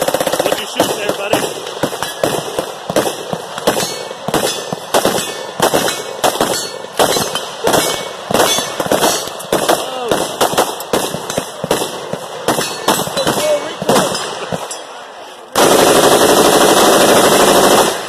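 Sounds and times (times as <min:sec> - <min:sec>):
carbine fired close by: 0:00.0 - 0:14.6
rapid gunfire: 0:00.0 - 0:14.6, 0:15.6 - 0:18.0.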